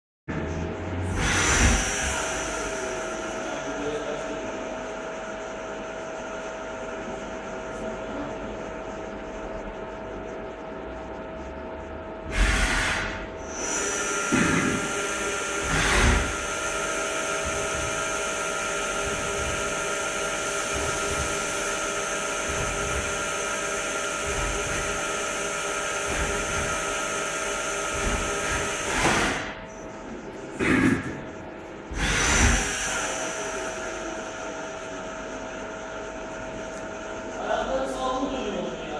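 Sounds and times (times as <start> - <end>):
lathe mechanical whine: 1.1 - 38.9.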